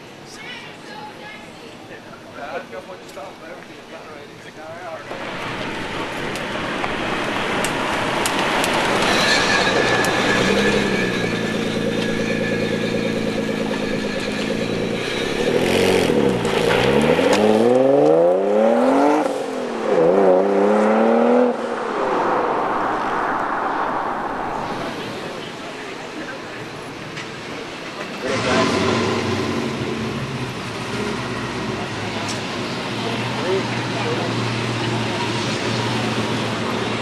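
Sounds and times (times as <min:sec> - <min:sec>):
car engine revving: 0:05.1 - 0:37.0.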